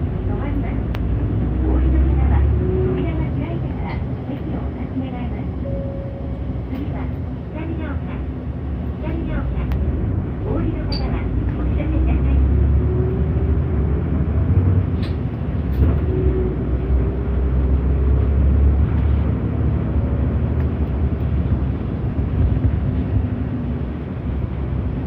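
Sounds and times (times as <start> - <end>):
bus engine and tyres rumbling: 0.0 - 25.0.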